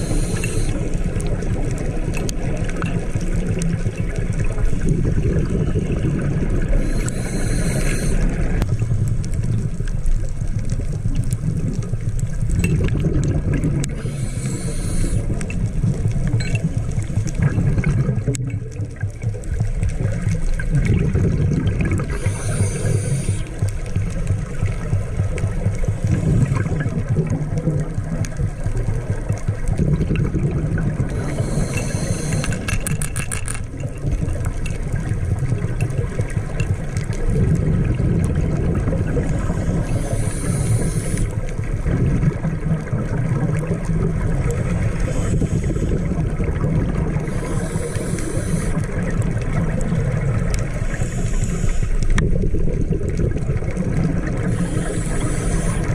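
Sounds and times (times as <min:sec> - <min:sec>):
diver regulator bubbles hissing: 0:00.0 - 0:09.8, 0:10.6 - 0:55.9
boat engine drone underwater: 0:00.0 - 0:55.9.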